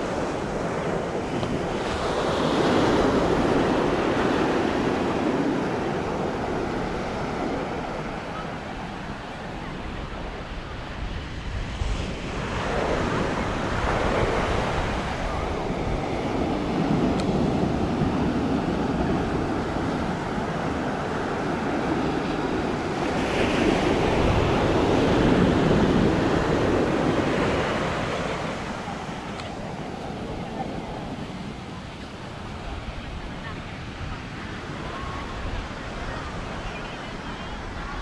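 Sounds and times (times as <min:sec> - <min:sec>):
surf breaking on beach: 0:00.0 - 0:38.0
wind buffeting microphone: 0:00.0 - 0:38.0.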